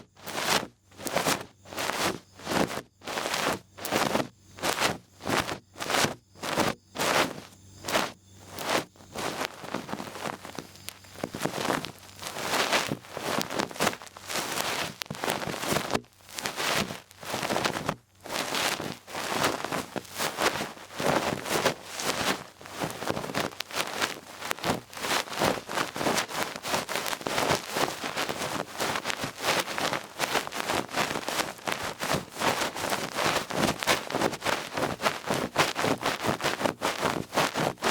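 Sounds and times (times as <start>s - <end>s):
scratchy rustling on microphone: 0.0s - 37.9s.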